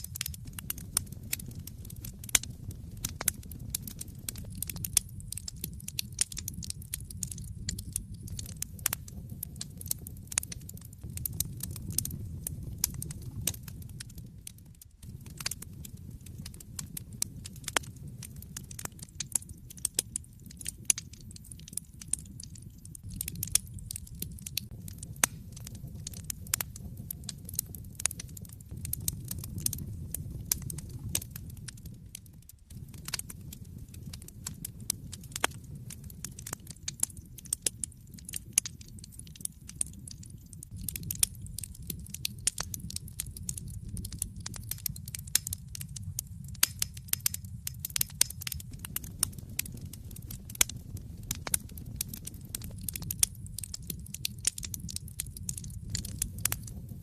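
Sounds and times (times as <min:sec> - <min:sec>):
fire rumbling: 0:00.0 - 0:57.0
wood fire pops and snaps: 0:00.0 - 0:57.0.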